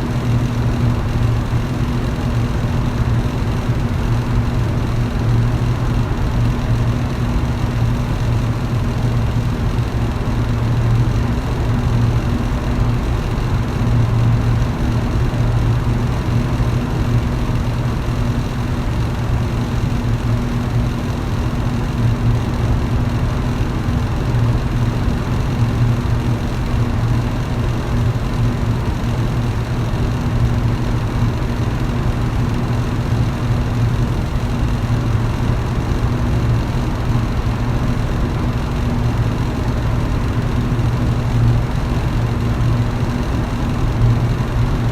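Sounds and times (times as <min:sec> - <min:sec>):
electric fan running: 0:00.0 - 0:44.9.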